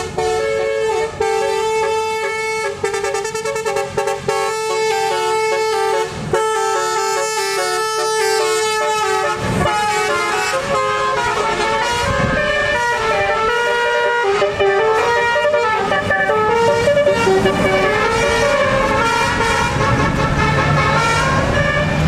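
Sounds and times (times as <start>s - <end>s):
musical bus horn playing a tune: 0.0s - 22.0s.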